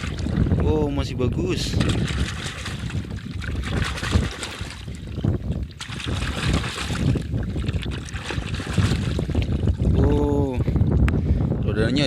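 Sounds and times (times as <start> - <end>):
water sloshing and splashing: 0.0 - 11.0
wind buffeting microphone: 0.0 - 12.0.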